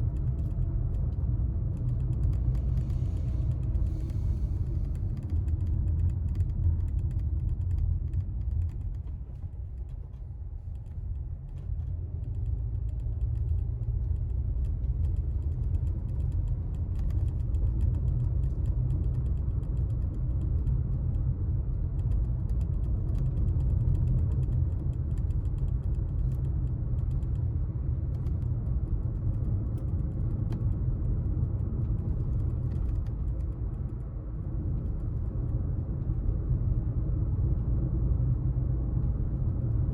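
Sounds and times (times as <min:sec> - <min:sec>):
car interior rumble: 0:00.0 - 0:39.9
faint clicks and creaks: 0:00.0 - 0:39.9.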